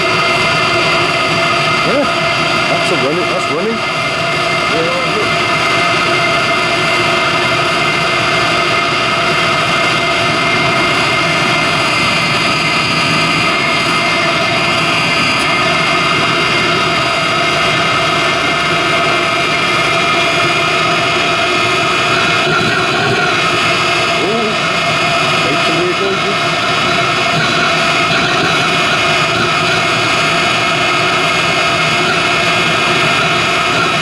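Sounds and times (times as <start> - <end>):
heater burner and fan roar: 0.0 - 34.0
steady whine: 0.0 - 34.0.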